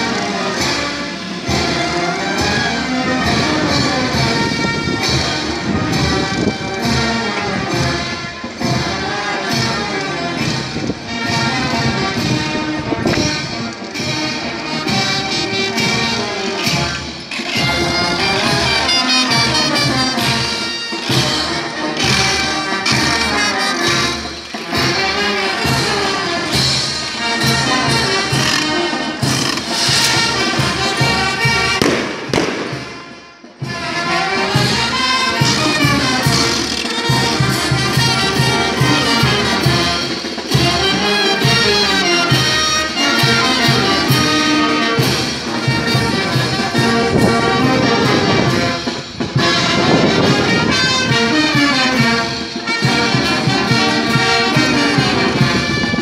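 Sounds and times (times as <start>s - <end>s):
brass band playing dance music: 0.0s - 56.0s.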